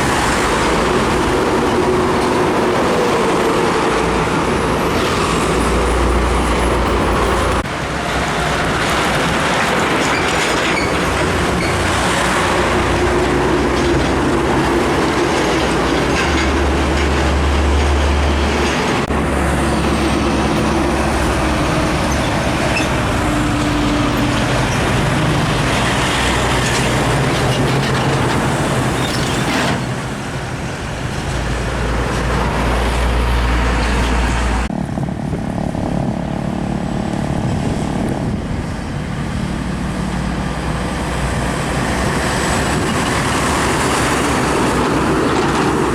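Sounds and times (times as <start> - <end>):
diesel trucks driving past: 0.0 - 45.9
tyre and traffic rush: 0.0 - 45.9.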